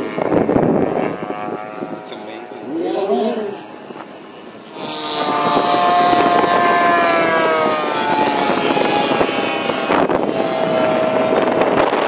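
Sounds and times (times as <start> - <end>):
different engine note: 0.0 - 12.0
model plane engine passing: 0.0 - 12.0.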